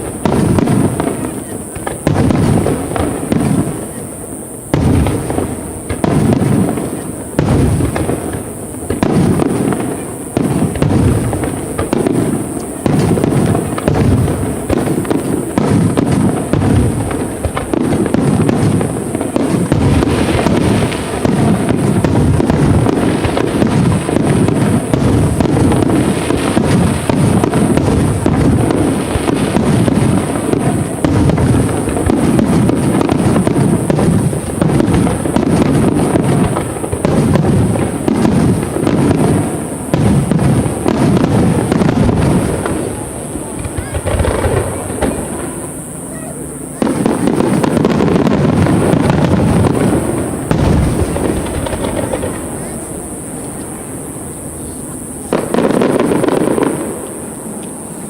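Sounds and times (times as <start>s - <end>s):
fireworks booming: 0.0s - 58.0s.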